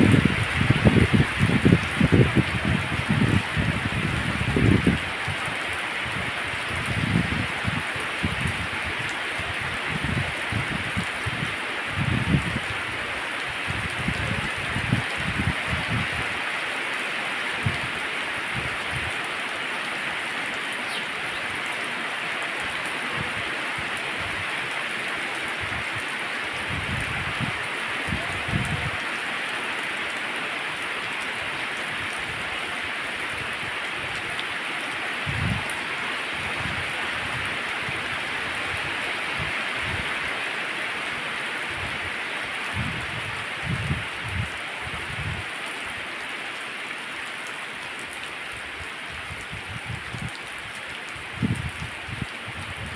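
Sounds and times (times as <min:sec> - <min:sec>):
heavy rain on pavement: 0:00.0 - 0:52.9.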